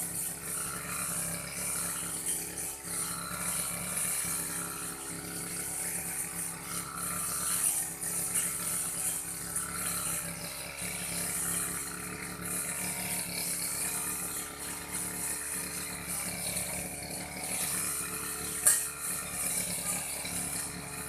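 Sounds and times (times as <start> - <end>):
brush cutter engine cutting grass: 0.0 - 21.0.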